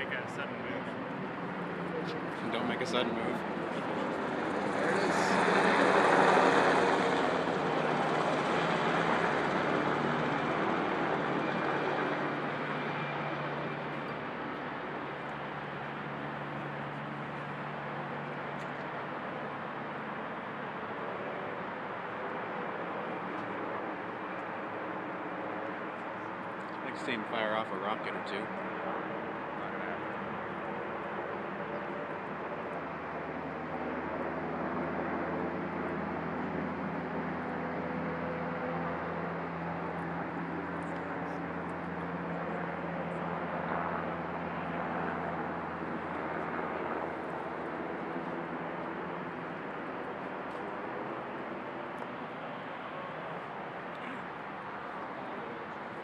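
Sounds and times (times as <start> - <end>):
helicopter flying overhead: 0.0 - 56.0.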